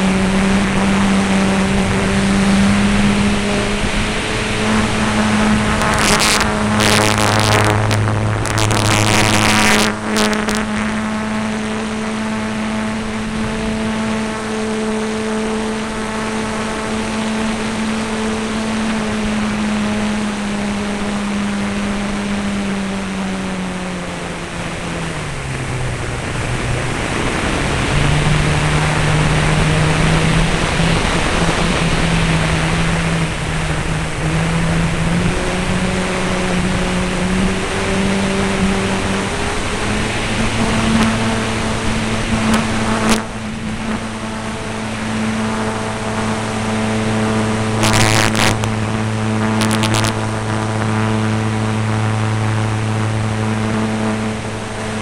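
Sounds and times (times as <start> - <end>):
model airplane propeller droning: 0.0 - 55.0.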